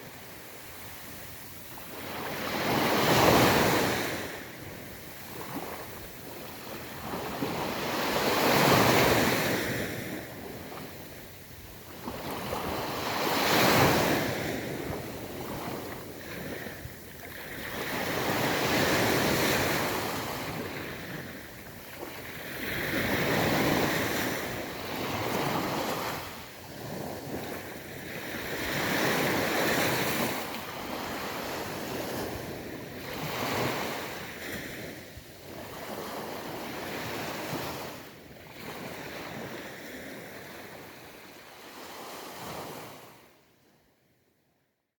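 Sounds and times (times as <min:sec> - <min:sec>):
sea waves breaking on beach: 0:00.0 - 0:43.2
wind noise on microphone: 0:00.0 - 0:43.3.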